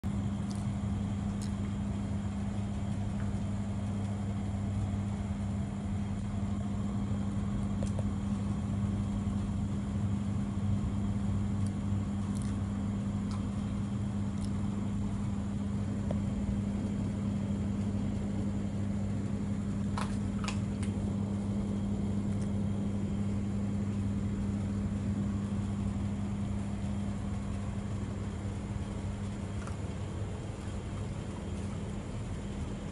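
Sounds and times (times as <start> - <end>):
low machine hum: 0.0 - 32.9.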